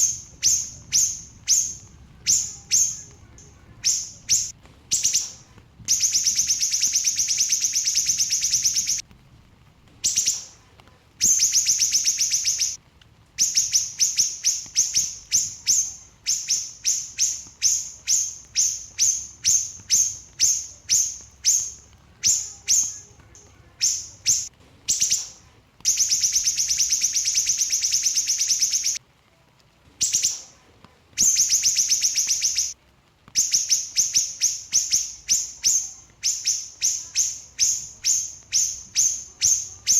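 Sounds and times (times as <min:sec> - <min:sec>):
small bird singing trills: 0:00.0 - 0:09.0, 0:10.0 - 0:10.6, 0:11.2 - 0:12.8, 0:13.4 - 0:29.0, 0:30.0 - 0:30.6, 0:31.2 - 0:32.8, 0:33.4 - 0:39.9.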